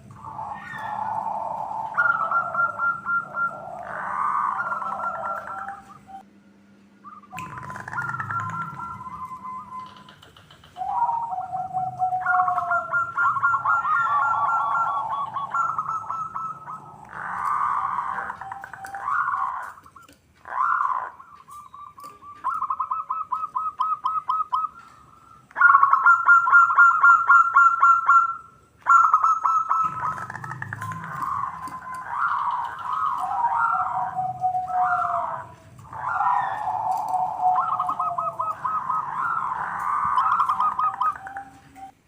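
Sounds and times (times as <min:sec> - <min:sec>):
doves cooing trills: 0:00.0 - 0:42.0.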